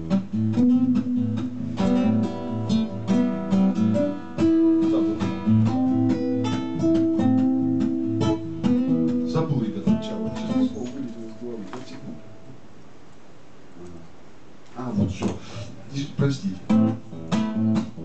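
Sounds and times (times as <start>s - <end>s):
acoustic guitar playing: 0.0s - 12.7s, 15.8s - 18.0s.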